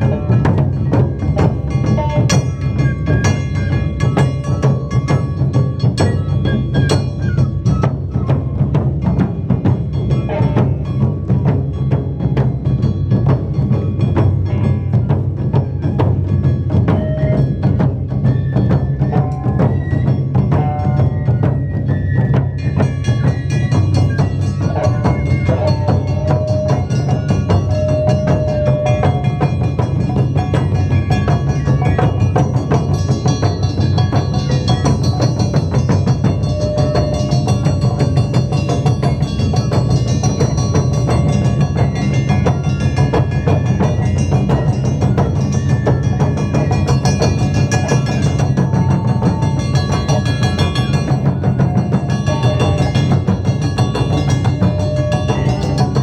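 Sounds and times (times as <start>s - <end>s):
held high melody notes: 0.0s - 56.0s
taiko drumming: 0.0s - 56.0s.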